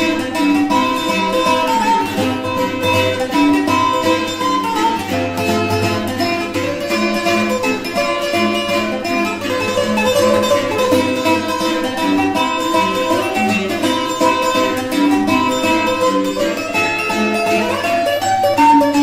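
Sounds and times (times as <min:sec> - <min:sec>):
plucked guitar-like music: 0:00.0 - 0:19.0.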